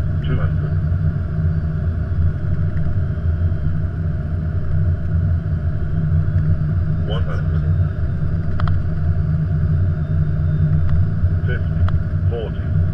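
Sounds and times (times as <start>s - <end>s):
airflow and engine rumble in cockpit: 0.0s - 12.9s.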